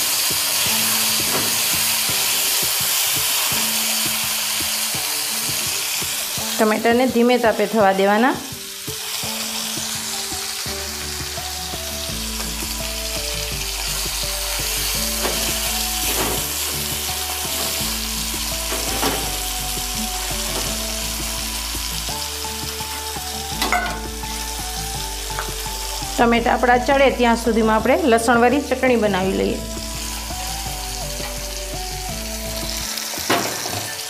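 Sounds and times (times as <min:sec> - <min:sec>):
tomatoes sizzling in oil: 0:00.0 - 0:34.0.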